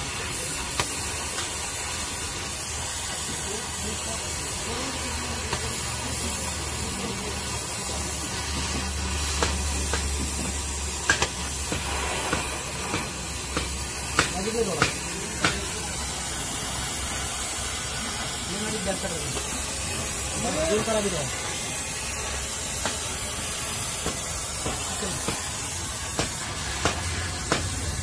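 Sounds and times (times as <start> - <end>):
cutting torch hissing: 0.0 - 28.0.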